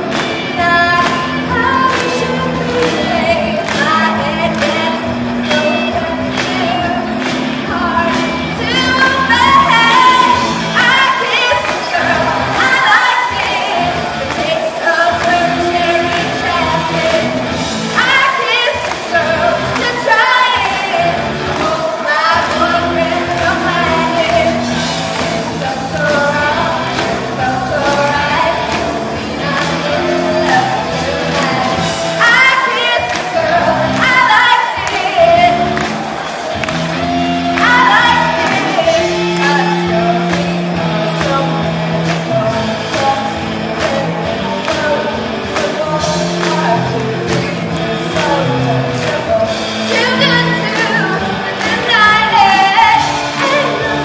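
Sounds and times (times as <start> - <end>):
group singing together: 0.0 - 54.0
live band with electric guitar: 0.0 - 54.0.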